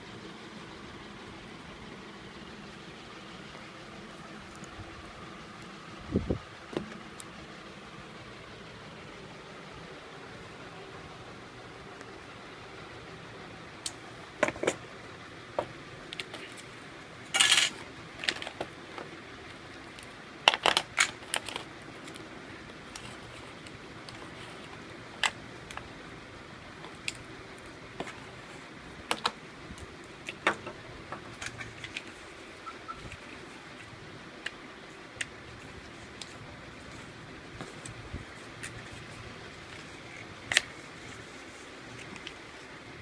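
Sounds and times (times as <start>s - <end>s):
faint steady hiss: 0.0s - 43.0s.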